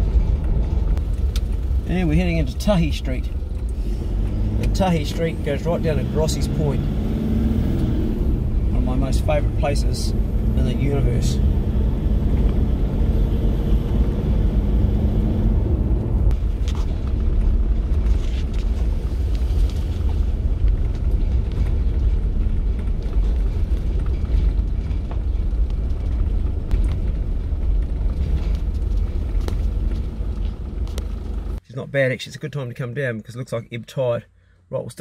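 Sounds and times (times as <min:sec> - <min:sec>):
truck engine rumble: 0:00.0 - 0:31.6.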